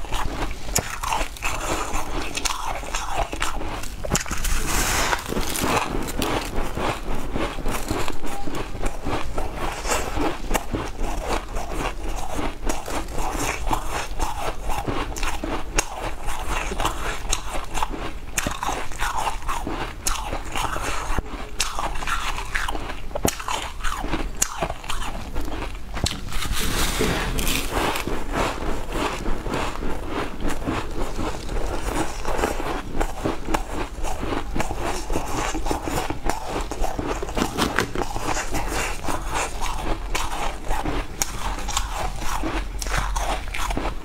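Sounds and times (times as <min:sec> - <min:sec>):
ice being chewed crunching: 0:00.0 - 0:44.0.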